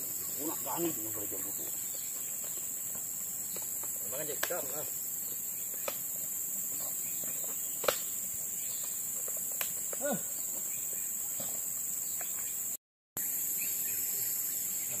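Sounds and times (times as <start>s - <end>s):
forest insects chorus: 0.0s - 15.0s.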